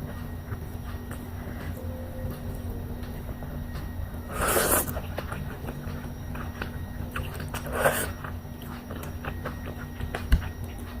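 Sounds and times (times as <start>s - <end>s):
low hum: 0.0s - 11.0s
person chewing: 0.0s - 11.0s.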